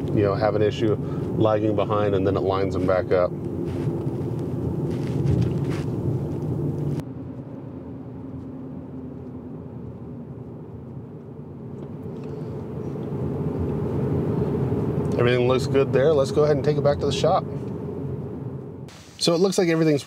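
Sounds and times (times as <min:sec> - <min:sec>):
car engine running: 0:00.0 - 0:18.9
road noise inside car: 0:00.0 - 0:20.0.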